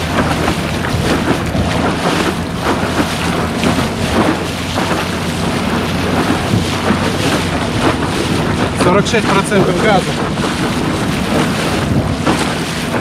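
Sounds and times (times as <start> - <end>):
low steady motor hum: 0.0 - 13.0
water rushing and splashing: 0.0 - 13.0
wind buffeting microphone: 0.0 - 13.0.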